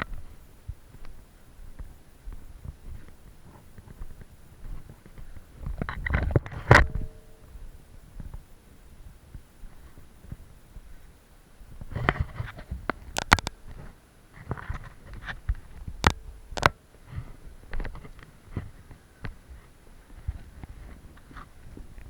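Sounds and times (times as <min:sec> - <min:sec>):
light rustle: 0:00.0 - 0:22.0.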